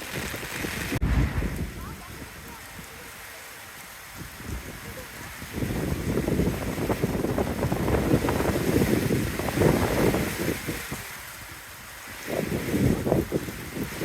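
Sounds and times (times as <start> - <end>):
hiss of heavy rain: 0.0 - 14.0
wind gusts buffeting microphone: 0.0 - 14.0.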